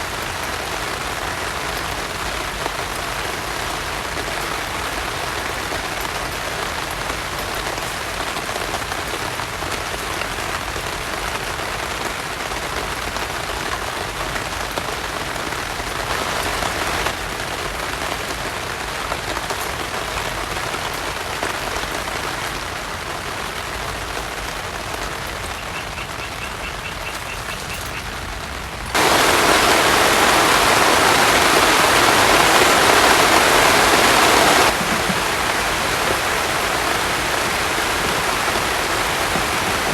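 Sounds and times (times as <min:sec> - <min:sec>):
heavy rain falling: 0:00.0 - 0:39.9
loud rush of water: 0:00.0 - 0:39.9.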